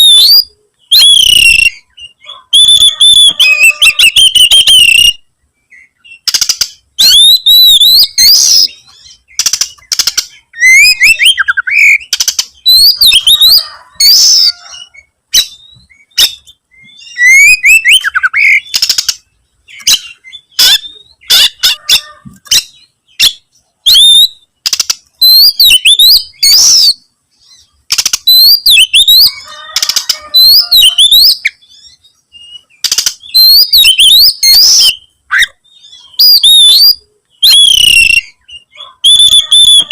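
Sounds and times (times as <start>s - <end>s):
bird singing whistled phrases: 0.0s - 6.4s, 7.0s - 19.1s, 22.6s - 24.5s, 25.2s - 27.0s, 28.0s - 39.9s.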